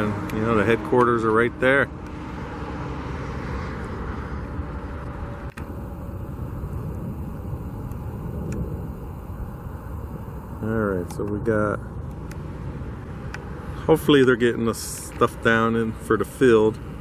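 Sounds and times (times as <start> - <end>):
distant engines rumbling: 0.0 - 17.0.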